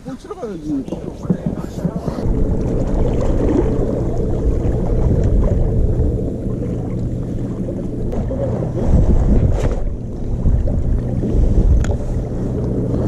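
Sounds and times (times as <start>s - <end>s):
loud low rumble: 2.2s - 13.0s.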